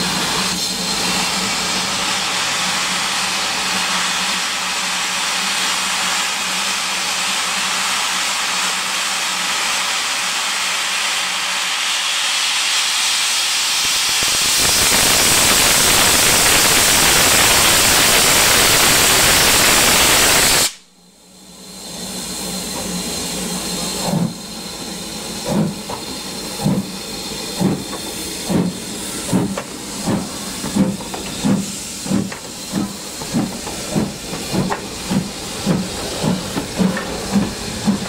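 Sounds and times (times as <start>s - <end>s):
steam locomotive hissing steam: 0.0s - 38.0s.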